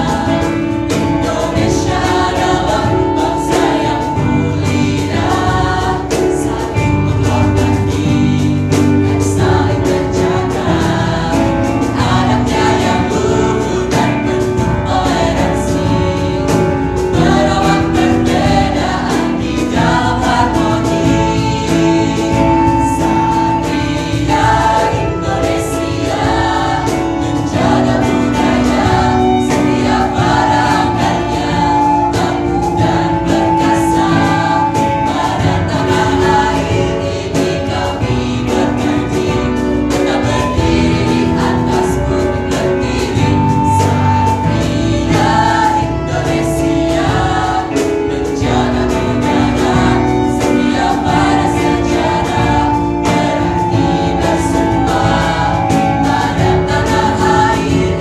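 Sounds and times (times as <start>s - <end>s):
light percussion beat: 0.0s - 58.0s
vocal group singing in harmony: 0.0s - 58.0s.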